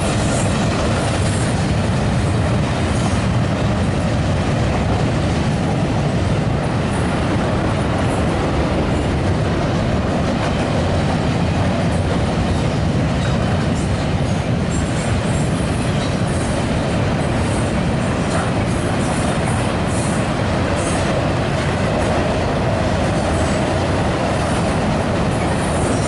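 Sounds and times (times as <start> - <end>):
freight train rumbling over bridge: 0.0 - 26.0.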